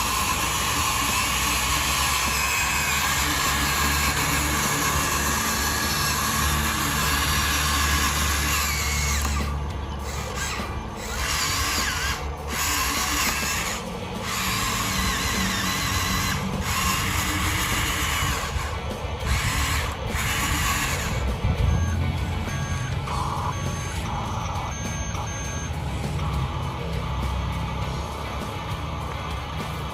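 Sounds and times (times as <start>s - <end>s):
small electric motors whining: 0.0s - 29.9s.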